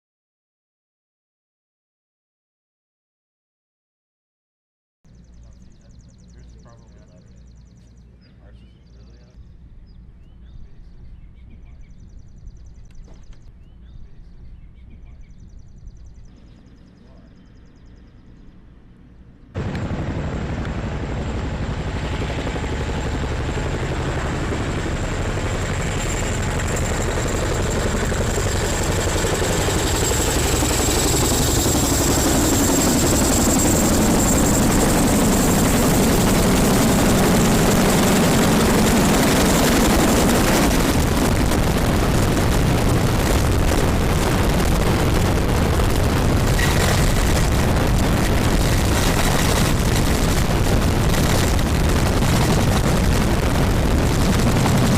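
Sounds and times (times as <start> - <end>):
helicopter rotor and engines: 5.1 - 54.9.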